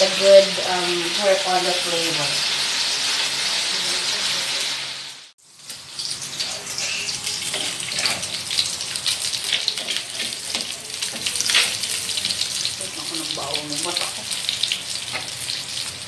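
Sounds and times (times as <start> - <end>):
chicken sizzling in a wok: 0.0 - 16.0.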